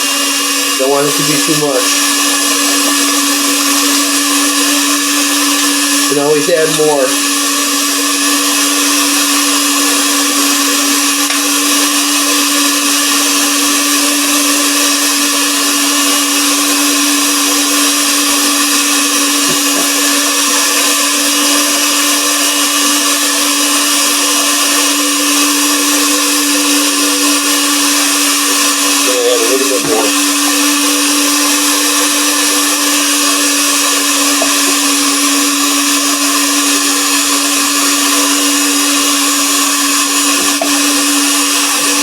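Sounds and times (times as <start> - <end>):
electric mixer running: 0.0 - 42.0.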